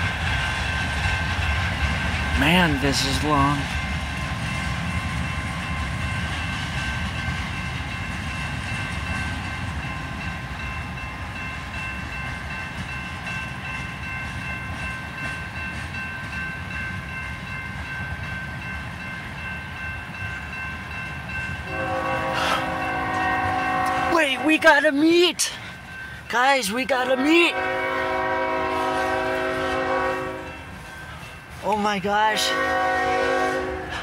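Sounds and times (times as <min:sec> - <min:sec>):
train cars rumbling past: 0:00.0 - 0:34.0
crossing warning bell ringing: 0:00.8 - 0:34.0.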